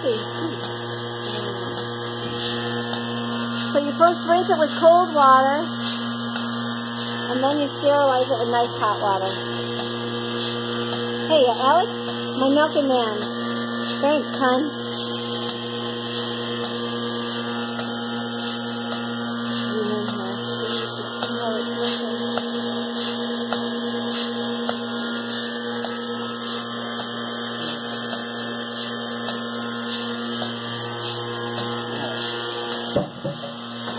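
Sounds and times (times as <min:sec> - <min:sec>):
washer electric hum: 0:00.0 - 0:33.9.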